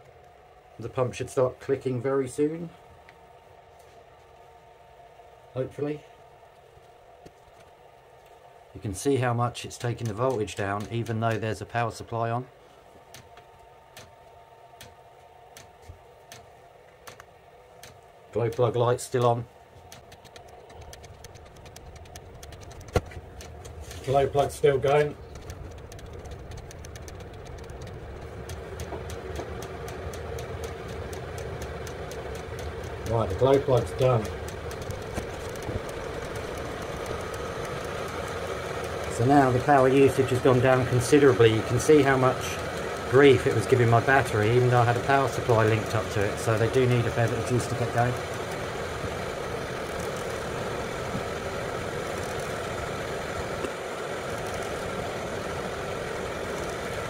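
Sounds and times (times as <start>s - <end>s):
air heater humming: 0.0s - 57.0s
fast faint ticks: 9.7s - 12.3s, 13.1s - 57.0s.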